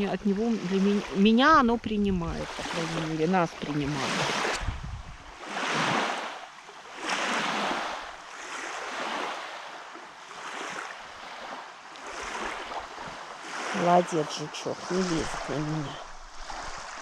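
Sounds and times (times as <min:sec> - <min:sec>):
waves washing onto shore: 0:00.0 - 0:17.0.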